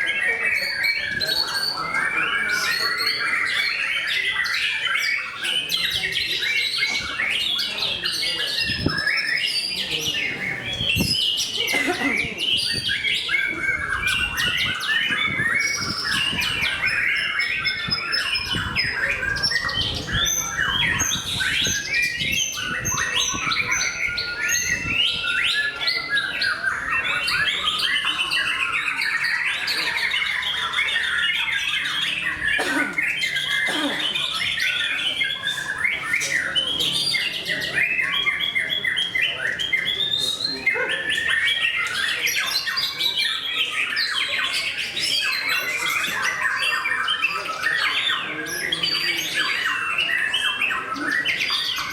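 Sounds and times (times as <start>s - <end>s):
bird singing whistled trills: 0.0s - 51.9s.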